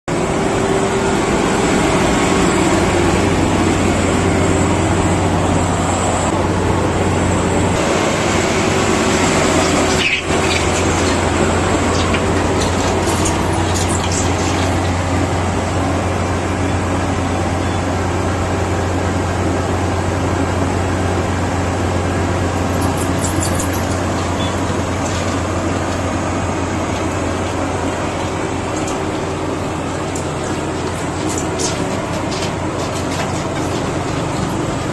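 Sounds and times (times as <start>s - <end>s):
threshing machine running: 0.1s - 34.9s.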